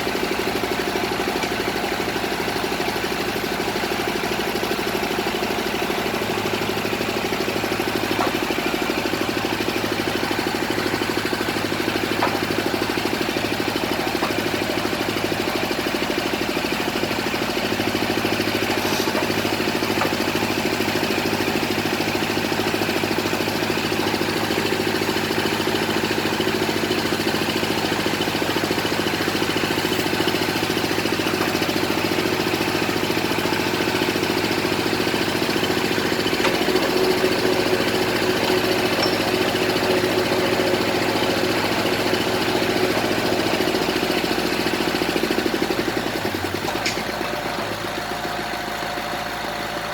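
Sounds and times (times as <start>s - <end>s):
drilling rig engine running: 0.0s - 49.9s.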